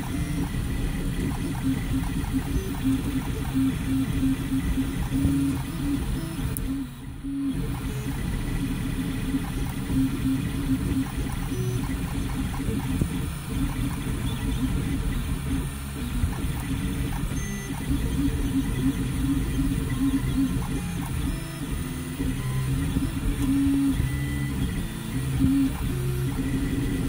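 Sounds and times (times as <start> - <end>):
cooling fans whirring: 0.0 - 27.0
stepper motors buzzing: 0.0 - 27.0.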